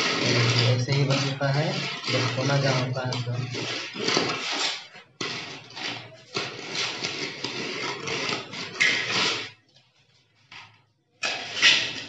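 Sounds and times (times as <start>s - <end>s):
trowel scraping plaster: 0.0s - 9.8s, 10.4s - 12.0s.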